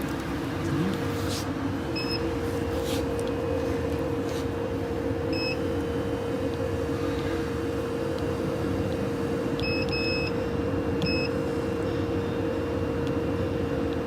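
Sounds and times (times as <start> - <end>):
tape machine humming: 0.0 - 14.0.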